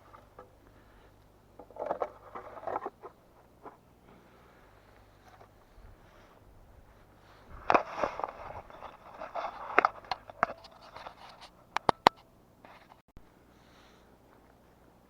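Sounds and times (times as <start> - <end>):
dry wood scraping and crackling: 0.0 - 13.0.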